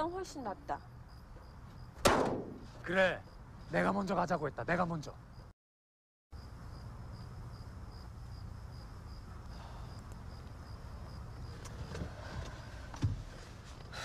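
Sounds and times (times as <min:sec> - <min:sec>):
cricket chirping: 0:00.0 - 0:05.5, 0:06.3 - 0:14.0.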